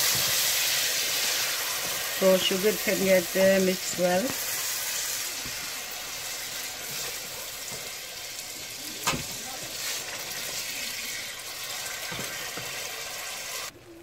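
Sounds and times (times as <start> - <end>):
wooden spatula stirring: 0.0 - 12.9
syrup sizzling and bubbling: 0.0 - 14.0.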